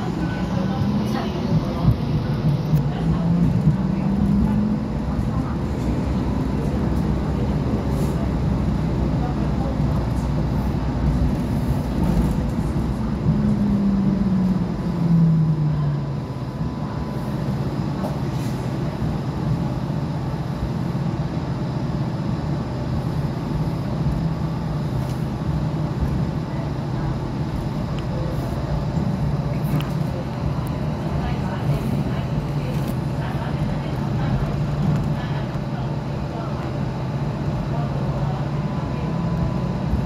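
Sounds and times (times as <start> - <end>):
tram wheels rumbling: 0.0 - 21.4, 23.0 - 40.0.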